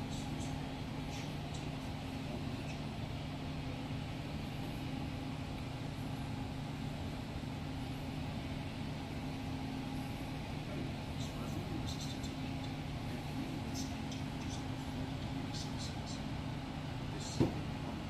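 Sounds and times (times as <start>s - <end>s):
machinery low hum: 0.0s - 18.0s.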